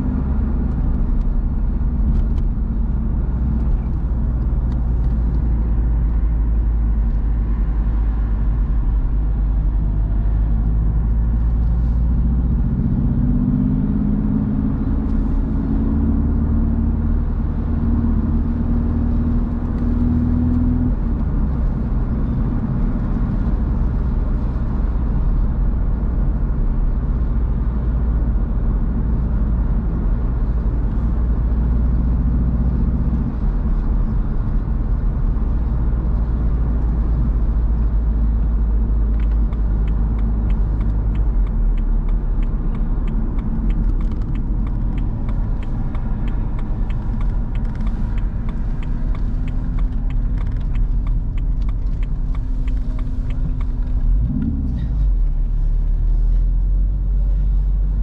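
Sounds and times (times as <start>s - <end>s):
car engine running: 0.0s - 58.0s
deep road rumble: 0.0s - 58.0s.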